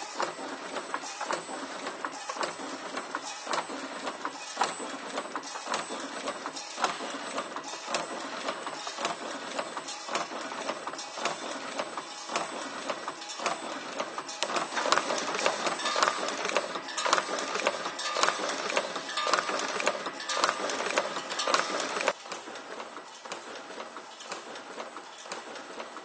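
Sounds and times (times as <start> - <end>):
wire-bending machine clacking: 0.0 - 25.9.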